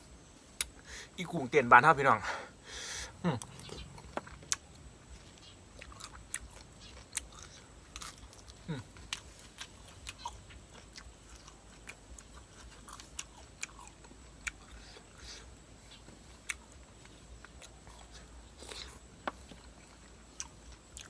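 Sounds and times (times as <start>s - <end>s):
mouth chewing and crunching: 0.5s - 2.1s, 2.8s - 21.0s.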